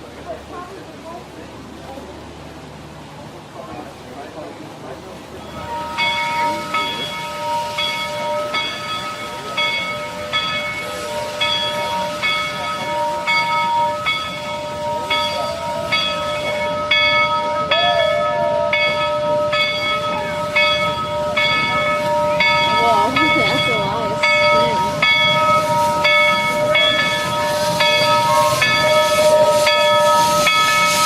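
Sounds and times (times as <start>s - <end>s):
locomotive bell ringing: 5.2s - 31.0s.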